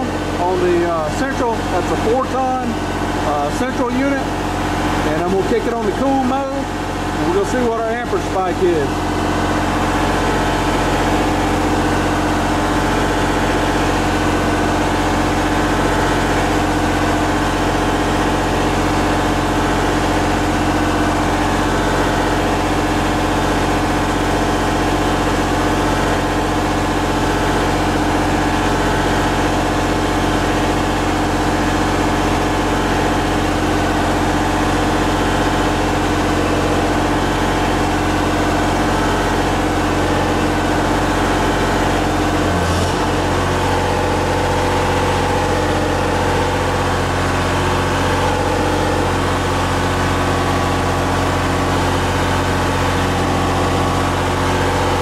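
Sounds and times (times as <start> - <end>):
diesel generator running: 0.0 - 55.0.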